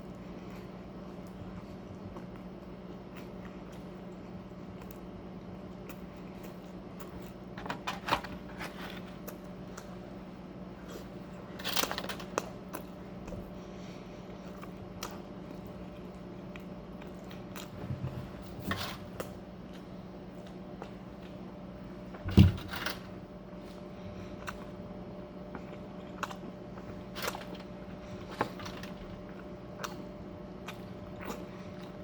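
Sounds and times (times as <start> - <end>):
chewing and crunching food: 0.0 - 32.0.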